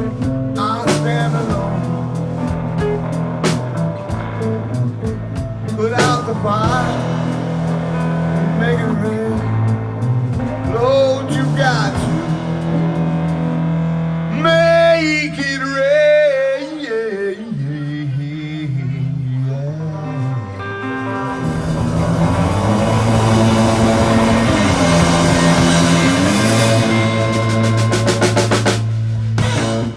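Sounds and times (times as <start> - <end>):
blues-rock band playing: 0.0 - 15.5, 20.1 - 29.9
bending lead guitar line: 0.0 - 16.2, 18.7 - 29.9.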